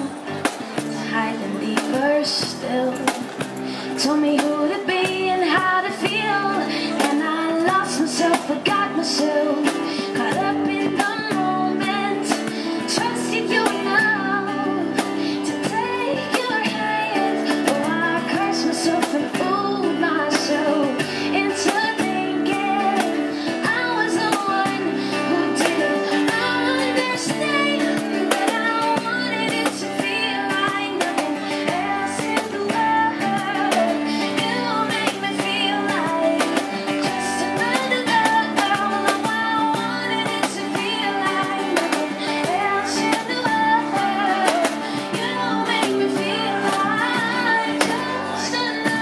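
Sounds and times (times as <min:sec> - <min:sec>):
strummed acoustic guitar: 0:00.0 - 0:49.0
woman singing: 0:00.0 - 0:49.0.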